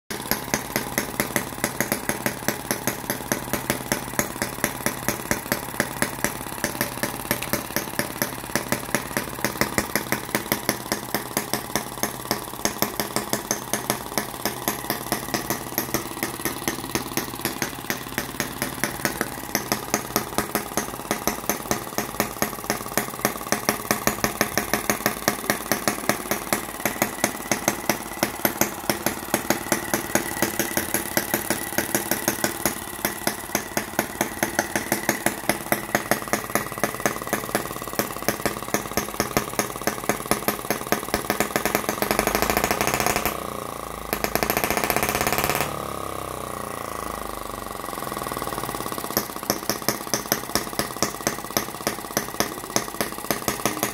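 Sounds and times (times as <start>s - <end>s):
model engine idling: 0.1s - 53.9s.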